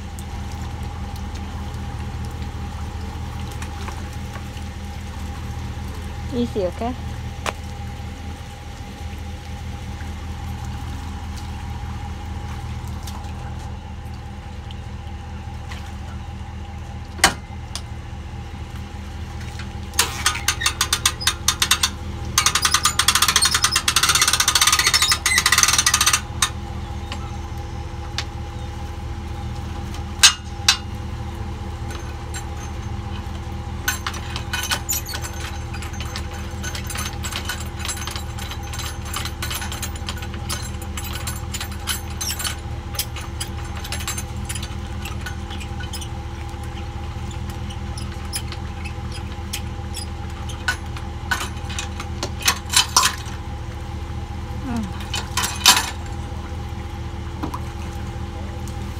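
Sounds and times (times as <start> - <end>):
vehicle engine idling: 0.0 - 58.9.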